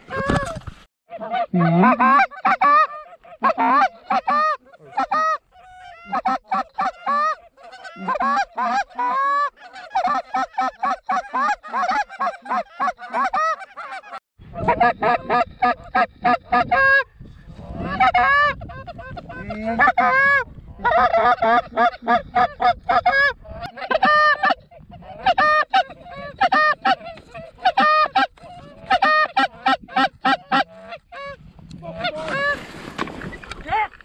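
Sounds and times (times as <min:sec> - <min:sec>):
goose calls clucking and honking: 0:00.1 - 0:32.6.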